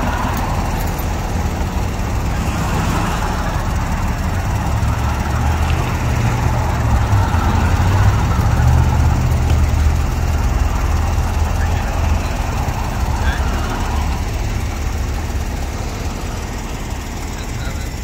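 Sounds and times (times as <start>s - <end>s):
low engine rumble: 0.0s - 18.0s
road traffic passing: 0.0s - 18.0s.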